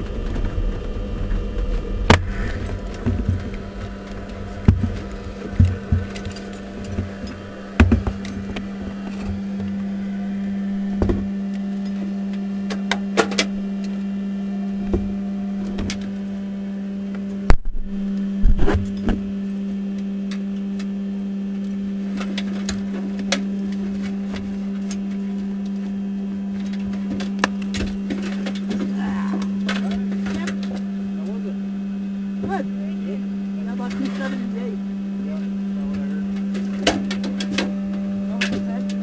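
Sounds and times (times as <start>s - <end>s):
steady cockpit hum: 0.0s - 39.0s.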